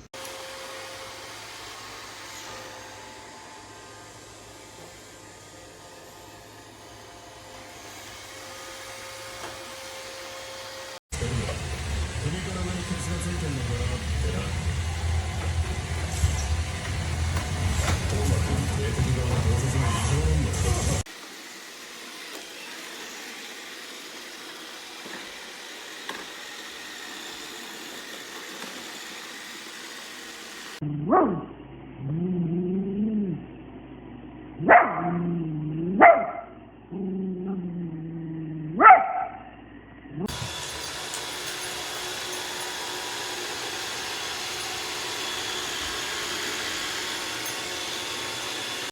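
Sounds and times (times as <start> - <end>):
robot vacuum whirring: 0.0 - 30.8, 40.2 - 48.9.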